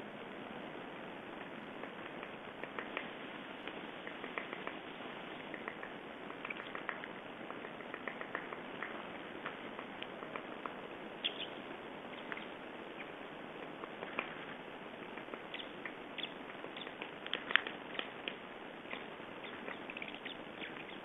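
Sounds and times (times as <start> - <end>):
steady hiss: 0.0 - 21.0
small birds chirping: 1.4 - 21.0.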